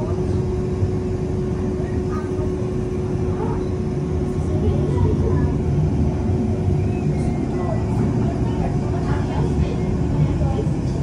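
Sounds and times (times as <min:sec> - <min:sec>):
constant hum tone: 0:00.0 - 0:11.0
faint murmur of voices: 0:00.0 - 0:11.0
machinery drone: 0:00.0 - 0:11.0.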